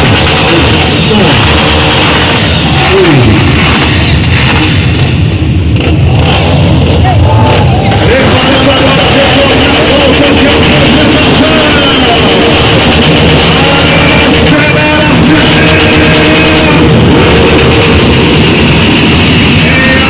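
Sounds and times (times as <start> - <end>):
loud music: 0.0 - 20.0
vehicle engines revving: 0.0 - 20.0.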